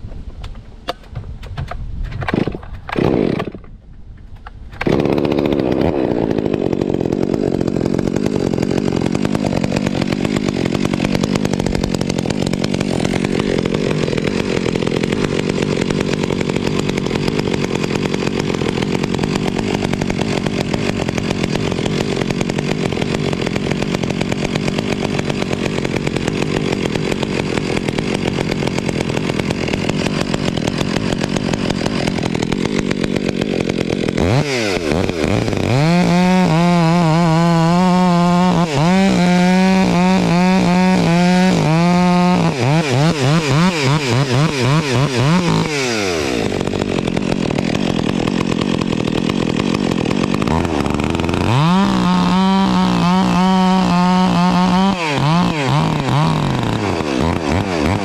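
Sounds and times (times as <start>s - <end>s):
chainsaw cutting wood: 0.4s - 58.0s.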